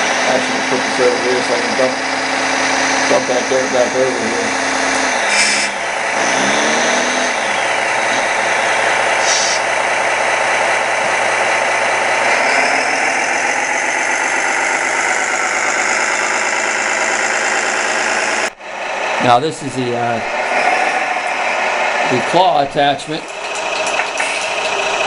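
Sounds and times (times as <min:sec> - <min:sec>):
hydraulic pump whir: 0:00.0 - 0:25.0
simulated diesel engine sound: 0:00.0 - 0:25.0.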